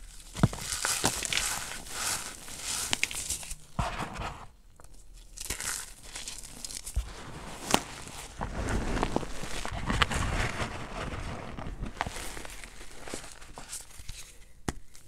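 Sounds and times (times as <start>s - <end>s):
hands crunching chalk: 0.0s - 4.4s, 5.2s - 15.0s.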